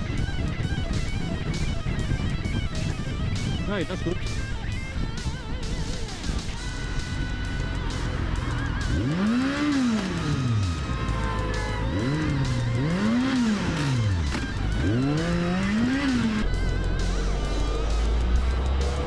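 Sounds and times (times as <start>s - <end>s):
background music: 0.0s - 19.0s
engine revving: 0.0s - 19.0s.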